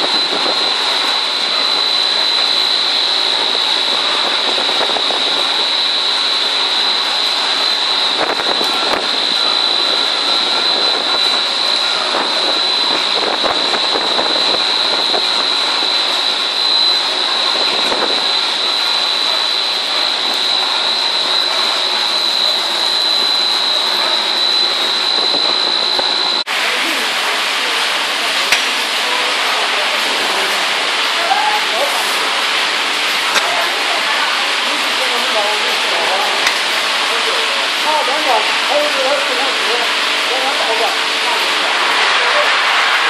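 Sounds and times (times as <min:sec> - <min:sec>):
snack forming machine running: 0:00.0 - 0:31.2, 0:32.0 - 0:43.0
steady high whine: 0:00.0 - 0:43.0.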